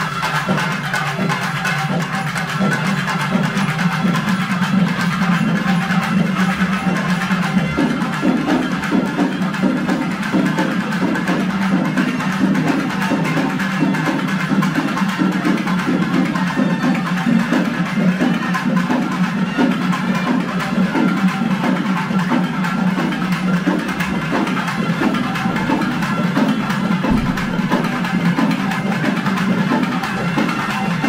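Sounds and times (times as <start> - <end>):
loud music with fast drumming: 0.0 - 31.0.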